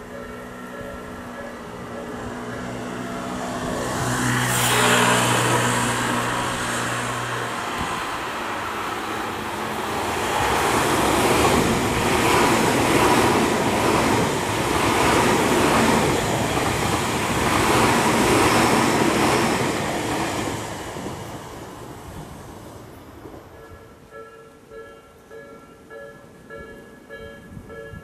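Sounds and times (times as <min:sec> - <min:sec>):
train wheel and rail noise: 0:00.0 - 0:28.0.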